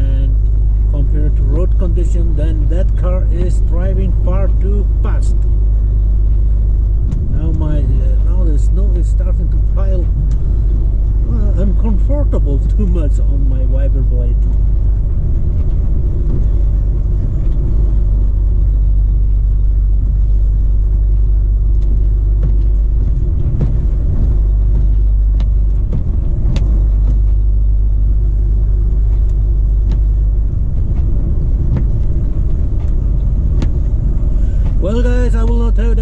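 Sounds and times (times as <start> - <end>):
truck engine and road rumble: 0.0 - 36.0.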